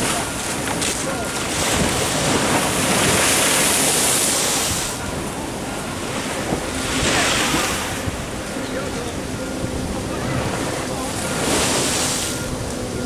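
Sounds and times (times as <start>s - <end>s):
ocean surf washing ashore: 0.0s - 13.0s
wind on microphone: 0.0s - 13.0s.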